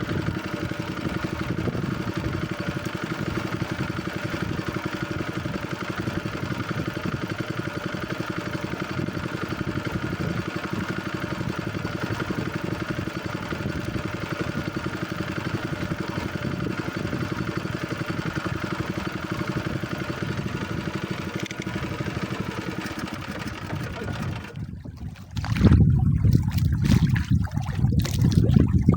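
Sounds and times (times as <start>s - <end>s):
small boat engine running: 0.0s - 28.9s.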